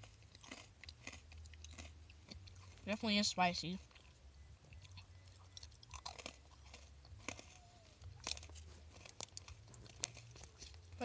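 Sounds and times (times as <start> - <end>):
low steady hum: 0.0 - 11.0
person chewing crunchy pretzels: 0.0 - 11.0.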